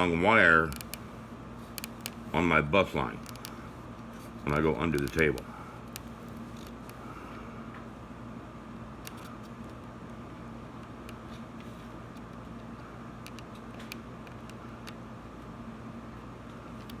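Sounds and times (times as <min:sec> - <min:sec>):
electrical room hum: 0:00.0 - 0:17.0.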